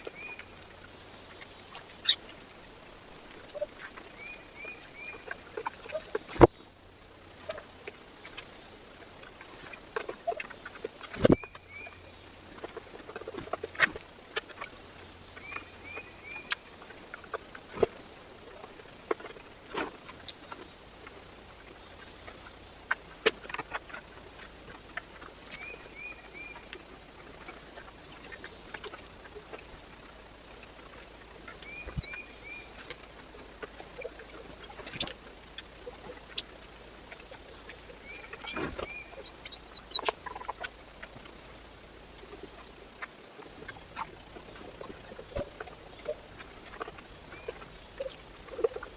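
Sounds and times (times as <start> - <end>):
birds tapping and clicking: 9.2 - 48.9.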